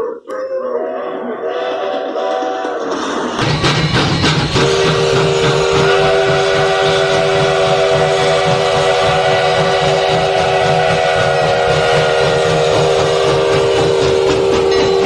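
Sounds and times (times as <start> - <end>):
moving train rumbling: 1.2 - 15.0
steam locomotive whistle: 1.4 - 15.0.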